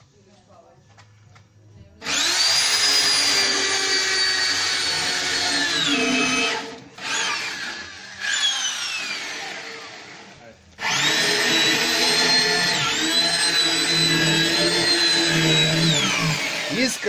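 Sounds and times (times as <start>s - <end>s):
electric drill running: 2.0s - 17.0s.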